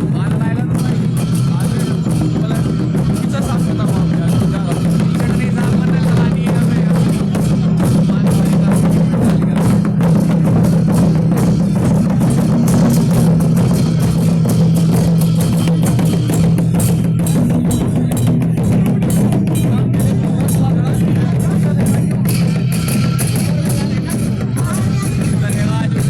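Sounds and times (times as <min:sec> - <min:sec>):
dense drumming: 0:00.0 - 0:26.0.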